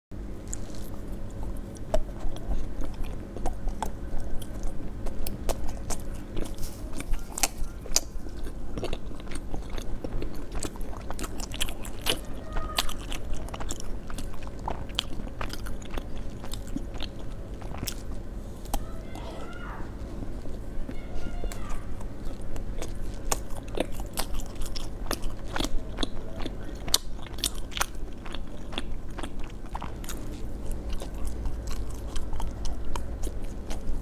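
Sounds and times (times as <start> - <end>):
steady low hum: 0.1 - 34.0
chewing and biting seafood: 0.3 - 34.0.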